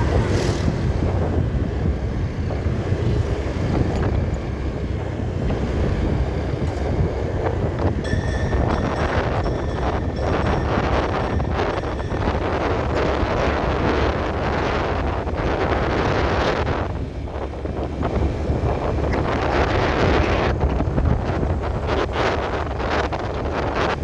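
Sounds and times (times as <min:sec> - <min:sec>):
road and traffic rumble: 0:00.0 - 0:24.0
wind buffeting microphone: 0:00.0 - 0:24.0.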